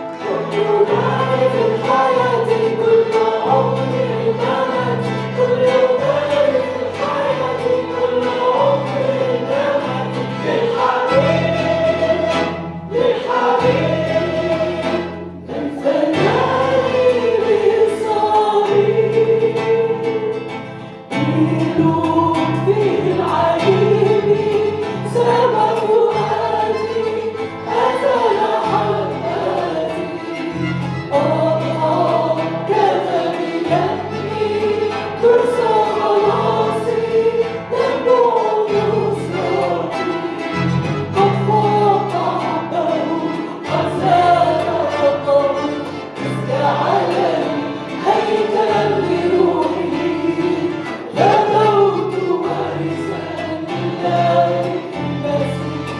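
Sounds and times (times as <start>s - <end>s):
congregation singing a hymn: 0.0s - 55.9s.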